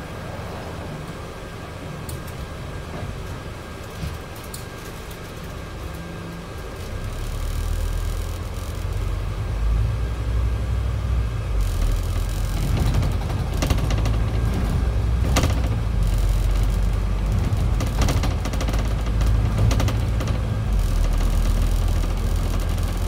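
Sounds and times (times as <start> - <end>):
bus diesel engine rumbling: 0.0 - 23.0.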